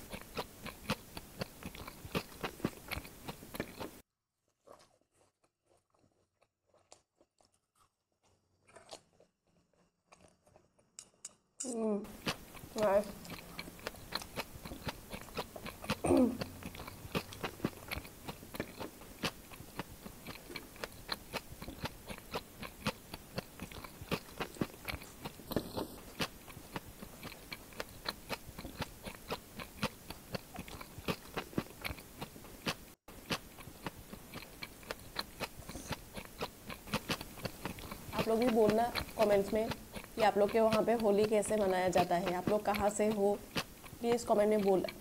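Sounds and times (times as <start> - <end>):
person chewing with wet mouth sounds: 0.0 - 11.3, 12.0 - 45.0.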